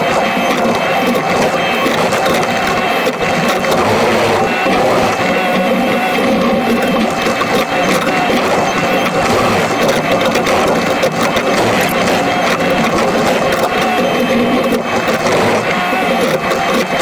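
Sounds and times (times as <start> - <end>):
digger diesel engine running: 0.0 - 17.0.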